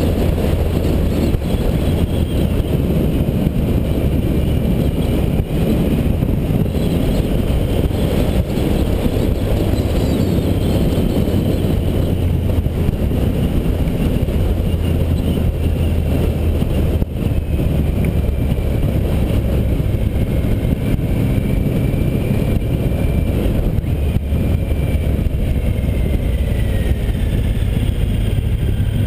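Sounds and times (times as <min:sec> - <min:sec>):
motorcycle engine running: 0:00.0 - 0:29.0
wind rush on microphone: 0:00.0 - 0:29.0.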